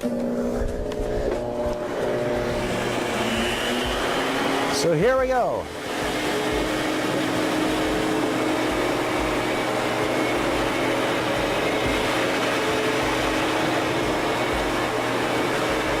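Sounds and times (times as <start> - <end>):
vacuum cleaner on carpet: 0.0 - 16.0.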